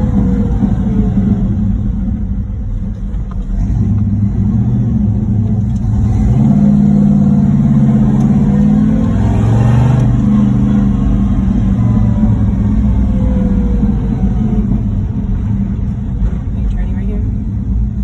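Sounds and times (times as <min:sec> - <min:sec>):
car engine running while driving: 0:00.0 - 0:18.0.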